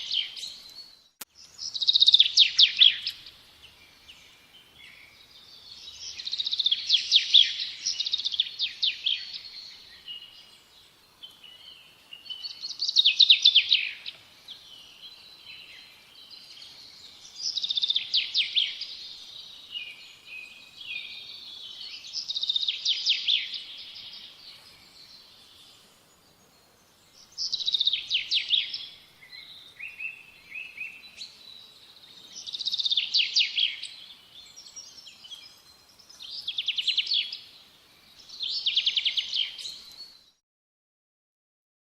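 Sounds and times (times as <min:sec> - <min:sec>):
soft bird chirps: 0:00.0 - 0:40.4.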